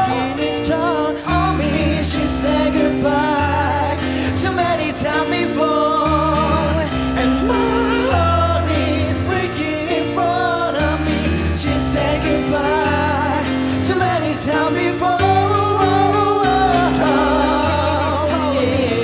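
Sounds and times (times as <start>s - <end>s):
man singing with vibrato: 0.0s - 19.0s
piano chords: 0.0s - 19.0s.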